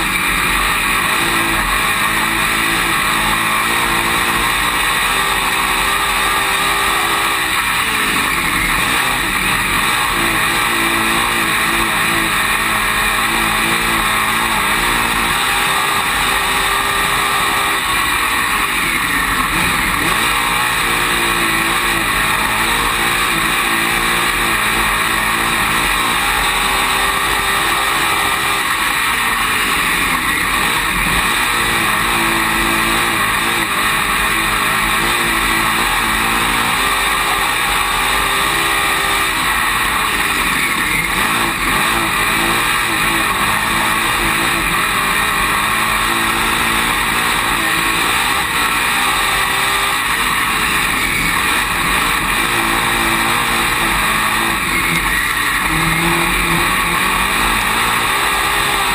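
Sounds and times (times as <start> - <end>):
race car engine revving: 0.0 - 58.9.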